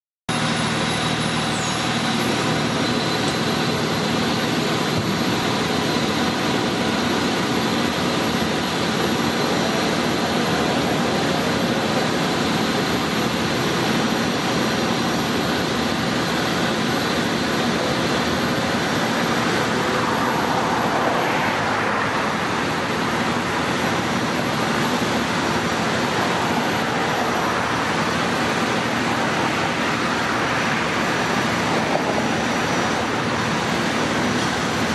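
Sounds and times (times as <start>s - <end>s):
passing traffic: 0.3s - 34.9s
diesel engine idling: 0.4s - 34.9s.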